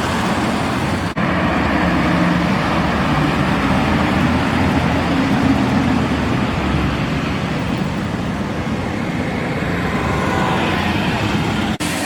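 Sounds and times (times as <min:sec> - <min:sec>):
car engines humming: 0:00.0 - 0:12.0
road and traffic noise: 0:00.0 - 0:12.0.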